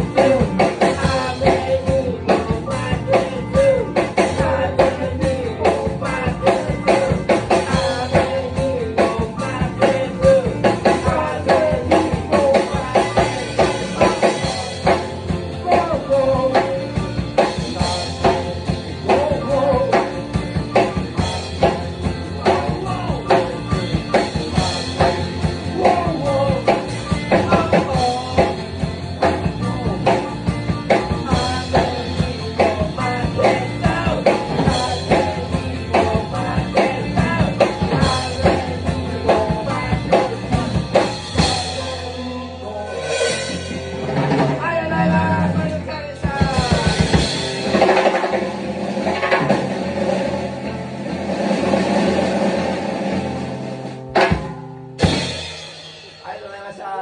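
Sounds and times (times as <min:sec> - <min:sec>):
drum kit beat: 0:00.0 - 0:57.0
live rock band playing: 0:00.0 - 0:57.0.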